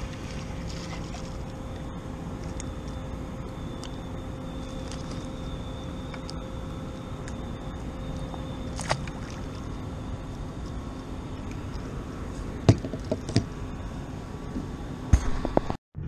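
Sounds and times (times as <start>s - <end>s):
water noise: 0.0s - 14.6s
wind: 0.0s - 16.0s.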